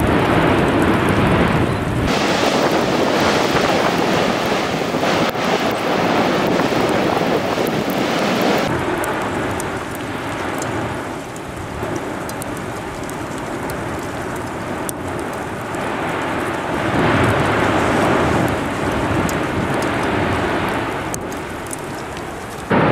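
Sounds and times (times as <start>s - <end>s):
lava fountaining rush: 0.0s - 22.9s.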